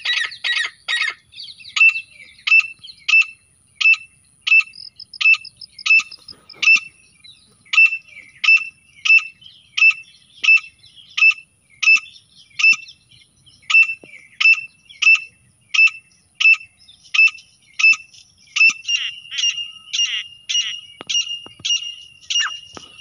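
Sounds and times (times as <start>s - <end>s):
shrill bird call: 0.0s - 23.0s.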